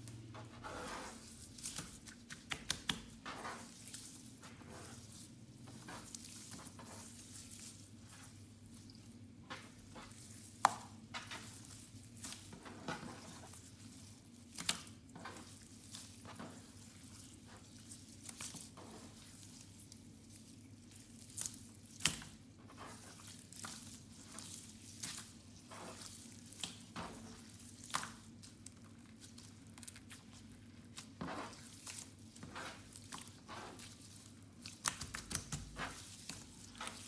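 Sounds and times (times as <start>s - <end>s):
slime squishing with wet crackles: 0.0s - 37.0s.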